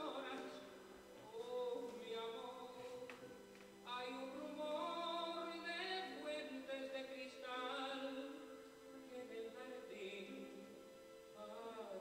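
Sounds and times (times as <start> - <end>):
recorded music with singing: 0.0 - 12.0.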